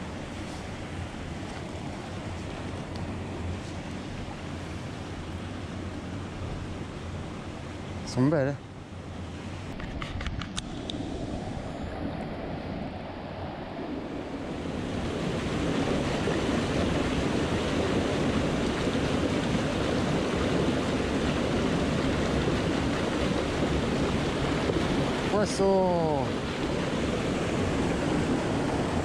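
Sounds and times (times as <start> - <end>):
river water rushing: 0.0 - 9.7, 10.6 - 29.0.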